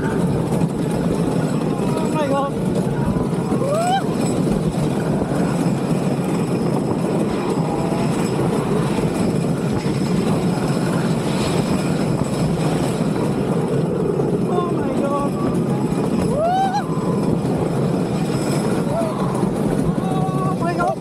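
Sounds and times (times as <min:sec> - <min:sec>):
roller coaster wheels rumbling: 0:00.0 - 0:21.0
wind rushing over microphone: 0:00.0 - 0:21.0.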